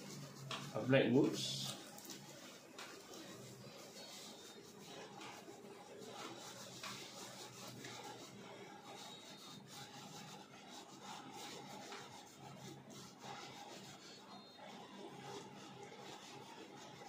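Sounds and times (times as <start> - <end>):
cloth rubbing on leather boot: 0.0 - 17.0.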